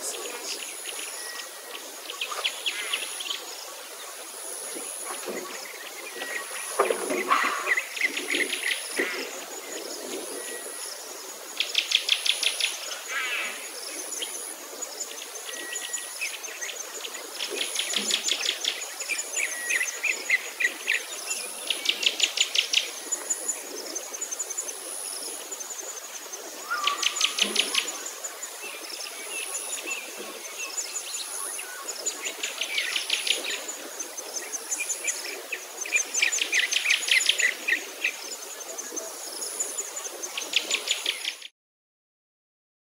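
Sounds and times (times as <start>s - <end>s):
insects buzzing pulses: 0.0s - 41.2s.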